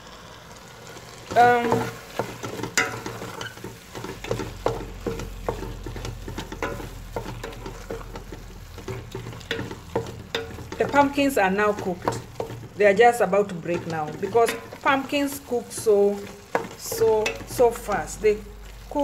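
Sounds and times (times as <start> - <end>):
food simmering hiss: 0.0 - 19.0
wooden spoon scraping metal pot: 1.2 - 19.0.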